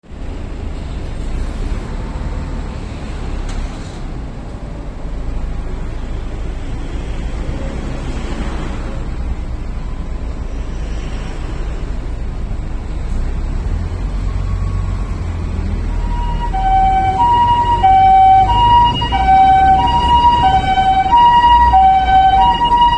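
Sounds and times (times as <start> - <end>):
road traffic low rumble: 0.0 - 22.9.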